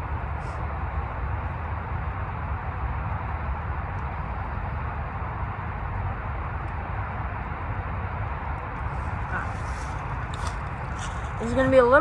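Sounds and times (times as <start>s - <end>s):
highway traffic: 0.0s - 12.0s.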